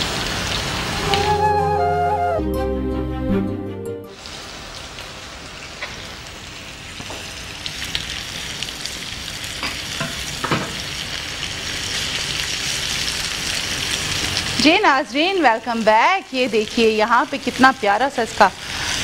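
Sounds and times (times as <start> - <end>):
chicken sizzling in frying pan: 0.0 - 1.3, 4.1 - 19.0.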